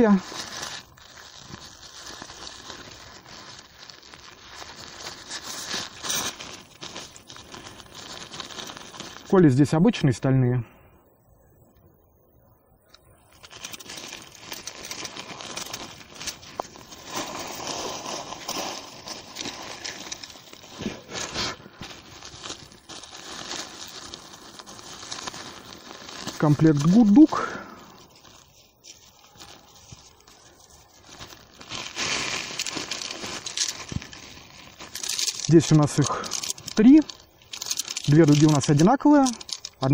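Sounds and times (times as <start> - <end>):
nylon sack rustling and crinkling: 0.0 - 10.2, 13.1 - 39.9.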